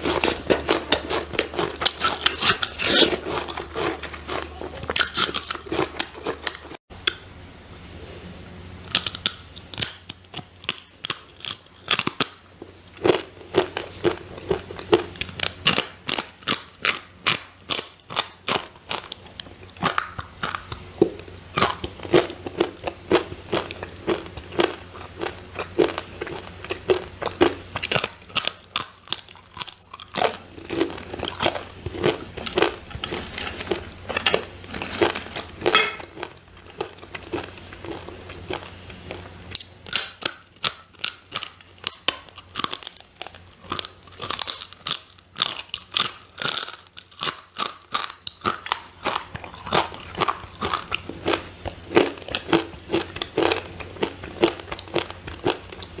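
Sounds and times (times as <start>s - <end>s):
crunching chips being chewed: 0.0s - 6.8s, 8.9s - 56.0s.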